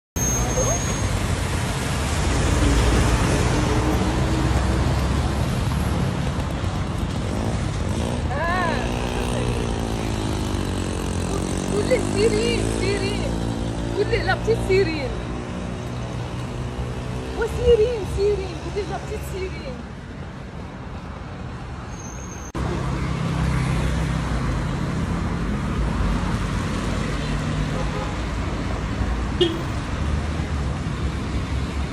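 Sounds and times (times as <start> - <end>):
city street traffic: 0.2 - 31.9.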